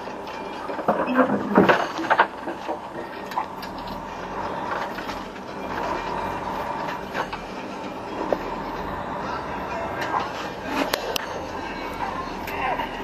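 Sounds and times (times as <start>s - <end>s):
truck engine rumble and hum: 0.0s - 13.0s.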